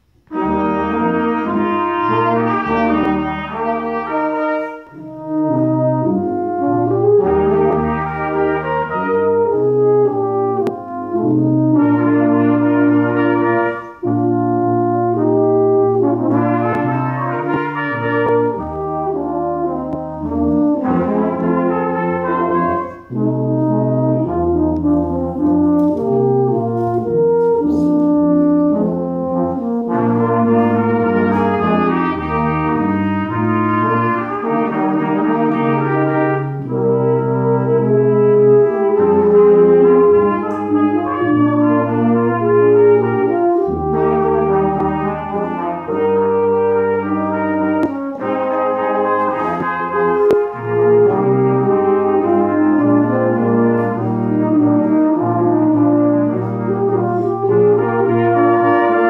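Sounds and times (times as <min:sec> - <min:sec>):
brass quintet playing chords: 0:00.0 - 0:59.0.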